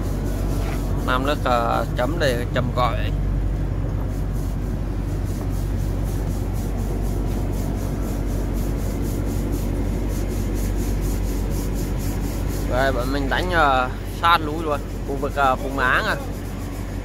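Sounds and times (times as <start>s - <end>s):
boat diesel engine running: 0.0s - 17.0s.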